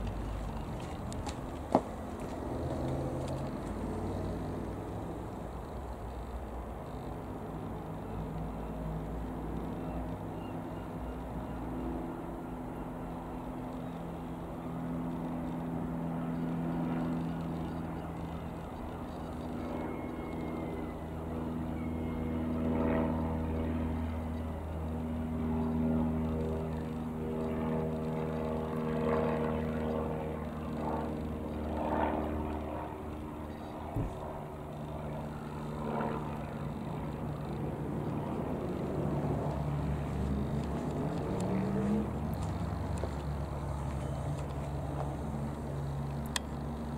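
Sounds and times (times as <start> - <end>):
light aircraft engine droning: 0.0 - 46.9.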